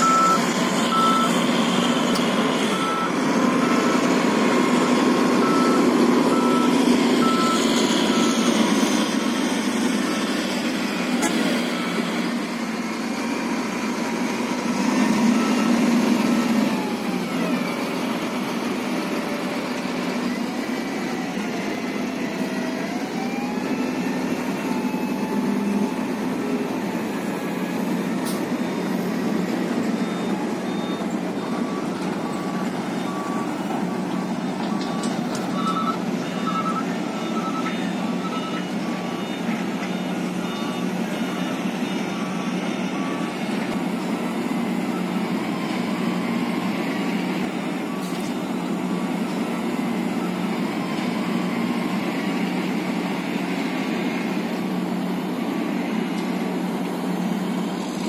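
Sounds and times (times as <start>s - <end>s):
truck diesel engines running: 0.0s - 58.0s
truck reversing alarm beeping: 0.0s - 58.0s.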